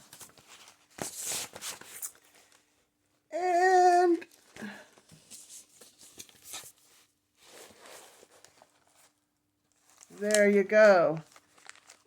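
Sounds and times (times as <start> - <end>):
paper rustling: 0.0 - 2.7, 4.3 - 12.0.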